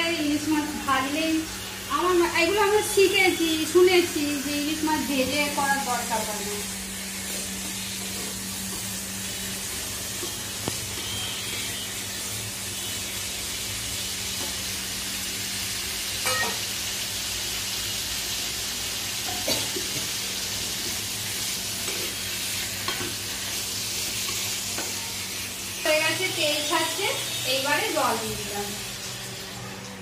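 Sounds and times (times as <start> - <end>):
food sizzling in a frying pan: 0.0 - 30.0.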